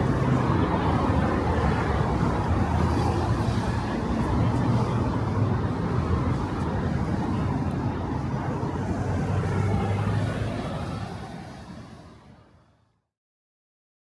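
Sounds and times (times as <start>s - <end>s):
low rumble of traffic: 0.0s - 12.7s.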